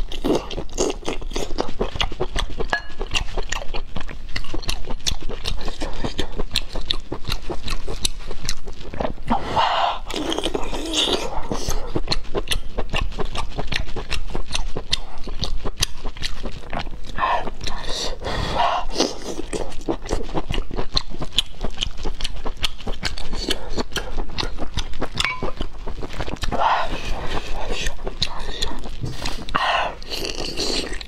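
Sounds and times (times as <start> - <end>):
wet chewing and lip smacks: 0.0 - 31.0.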